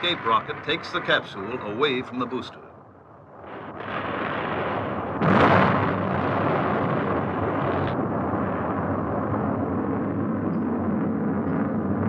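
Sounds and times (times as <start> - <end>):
rocket explosion blast: 0.0 - 2.4, 3.2 - 12.0
rumble of burning: 0.0 - 12.0.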